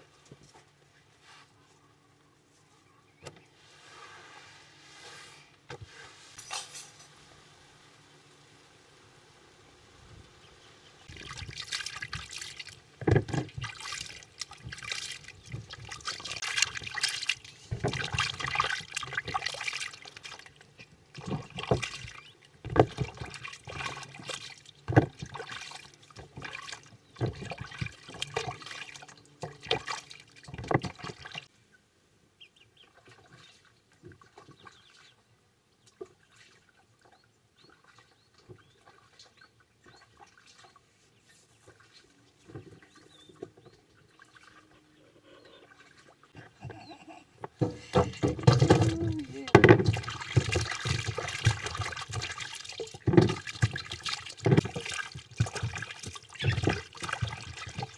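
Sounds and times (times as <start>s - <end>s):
water splashing and sloshing: 10.0s - 31.5s, 32.8s - 57.9s.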